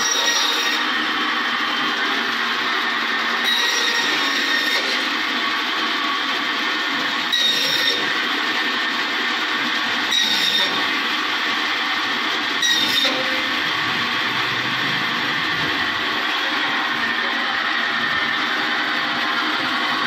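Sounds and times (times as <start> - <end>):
bandsaw cutting wood: 0.0 - 20.0
blade whine: 0.0 - 20.0.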